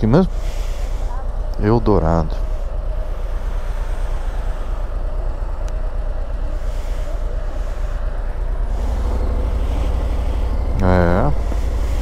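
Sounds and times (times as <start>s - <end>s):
motorcycle engine rumbling: 0.0s - 12.0s
road noise: 0.0s - 12.0s.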